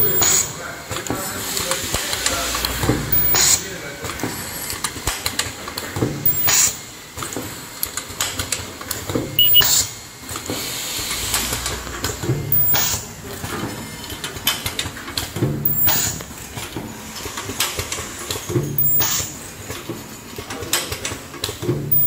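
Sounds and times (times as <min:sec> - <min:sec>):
welding machine clattering: 0:00.0 - 0:10.5, 0:11.4 - 0:22.0
machine hiss: 0:00.0 - 0:19.7.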